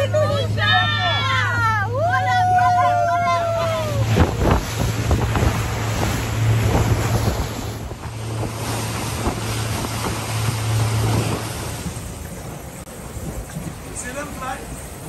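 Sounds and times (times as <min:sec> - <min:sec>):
motorboat engine drone: 0:00.0 - 0:15.0
water splashing against hull: 0:00.0 - 0:15.0
wind buffeting microphone: 0:00.0 - 0:15.0.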